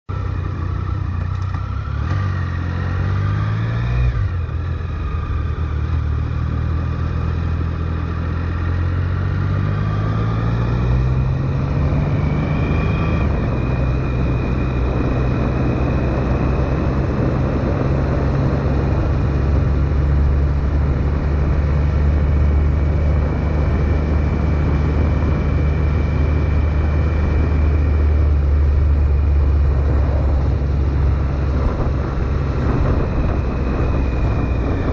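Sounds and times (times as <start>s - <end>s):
road and wind noise: 0.0s - 34.9s
motorcycle engine accelerating: 0.1s - 34.9s.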